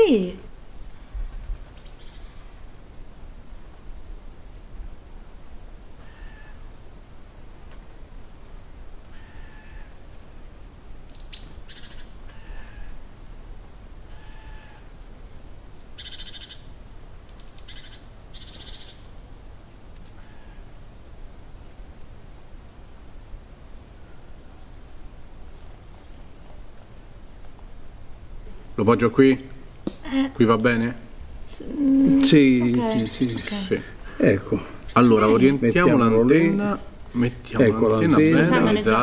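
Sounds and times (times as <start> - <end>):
birds chirping: 0.0 - 4.8, 8.5 - 13.4, 14.0 - 23.1, 23.8 - 26.6, 28.0 - 39.0.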